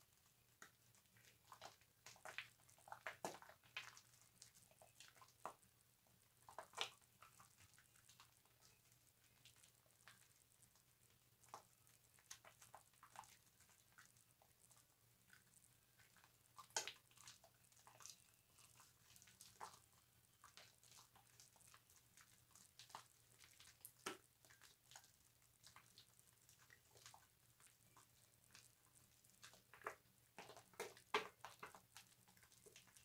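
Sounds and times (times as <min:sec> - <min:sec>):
wet crackling of soap lather: 0:00.0 - 0:33.0.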